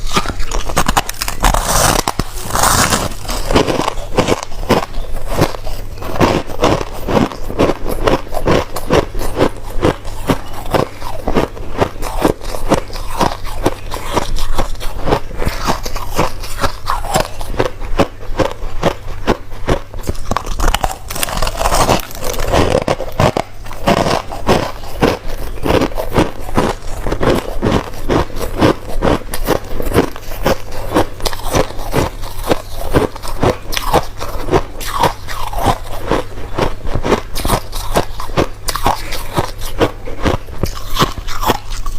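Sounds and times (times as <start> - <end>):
faint low hum: 0.0 - 41.9
ice being chewed: 0.0 - 41.9.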